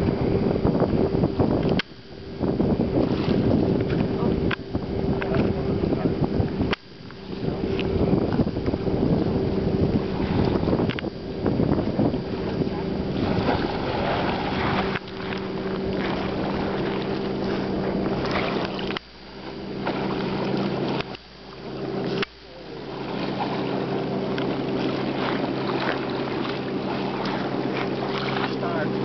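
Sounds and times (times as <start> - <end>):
boat motor running: 0.0 - 29.0
water and wind noise: 0.0 - 29.0.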